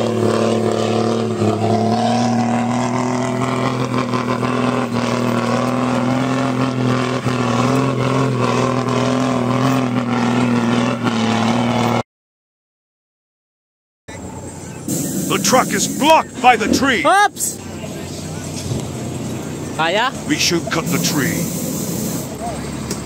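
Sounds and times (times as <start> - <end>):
diesel truck engine droning: 0.0 - 12.0, 14.1 - 23.0.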